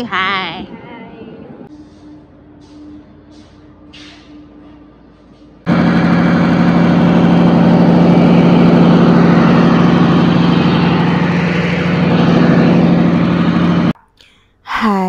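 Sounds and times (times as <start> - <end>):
diesel generator running: 1.7 - 14.0.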